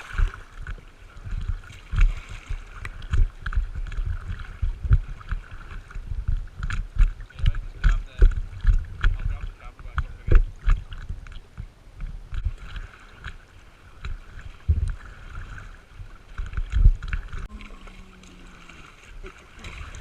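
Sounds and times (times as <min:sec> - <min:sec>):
wind thumping on microphone: 0:00.0 - 0:17.5
paddle splashing in water: 0:00.0 - 0:20.0.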